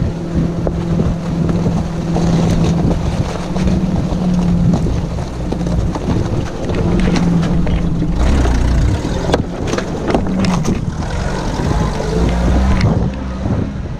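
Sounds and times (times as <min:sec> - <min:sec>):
off-road vehicle engine: 0:00.0 - 0:13.9
knocks and rattles from bumps: 0:00.6 - 0:13.2.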